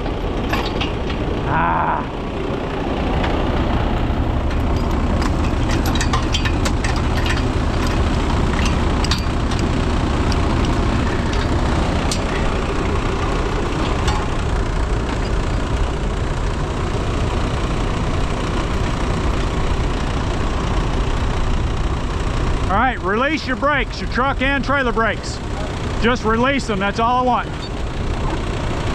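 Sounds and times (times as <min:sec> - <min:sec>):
truck diesel engine running: 0:00.0 - 0:28.9.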